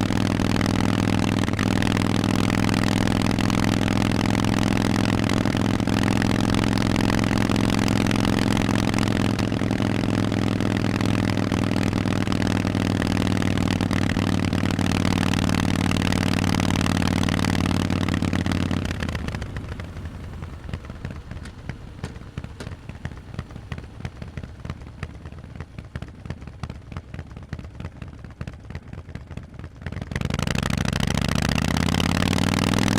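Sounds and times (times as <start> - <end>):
irregular engine clatter: 0.0 - 32.9
motorcycle engine running: 0.0 - 32.9.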